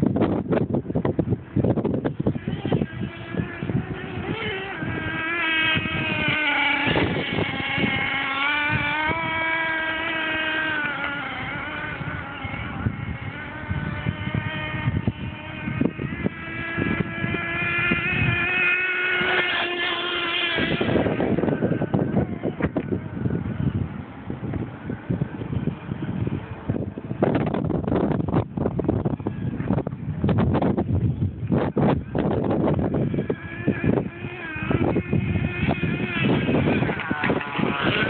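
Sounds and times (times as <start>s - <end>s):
small engine buzzing at high revs: 0.0s - 38.0s.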